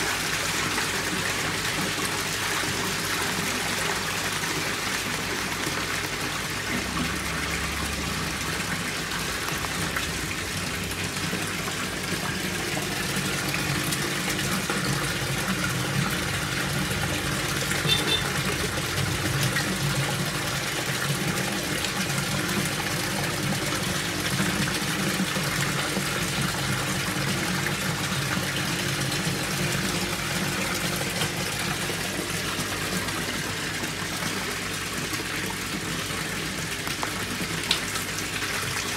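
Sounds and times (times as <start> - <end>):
water pump jet splashing: 0.0 - 38.9.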